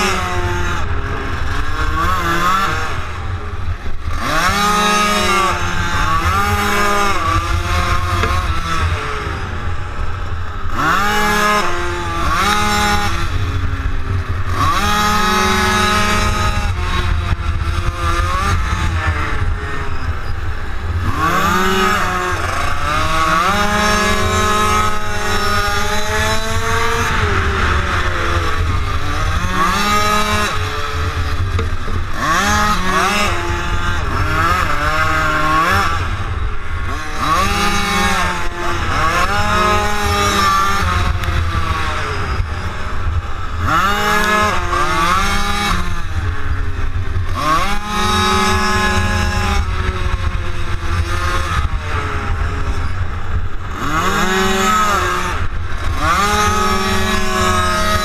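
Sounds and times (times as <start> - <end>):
motorcycle engine revving: 0.0 - 58.0
wind rumble on microphone: 0.0 - 58.0.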